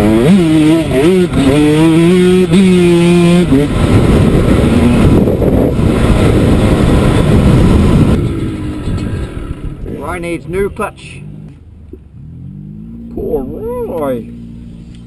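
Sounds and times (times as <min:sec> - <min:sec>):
dirt bike engine revving: 0:00.0 - 0:15.0
loud rough rumble: 0:00.0 - 0:15.0.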